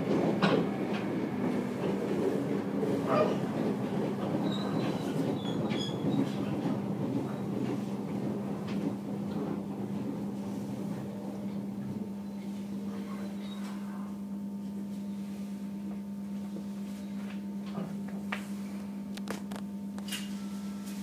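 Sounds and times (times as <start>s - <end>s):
train car hum: 0.0s - 19.2s.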